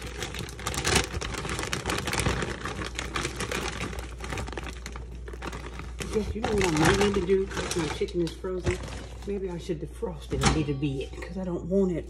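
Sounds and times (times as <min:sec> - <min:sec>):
kitchen items clattering: 0:00.0 - 0:11.5.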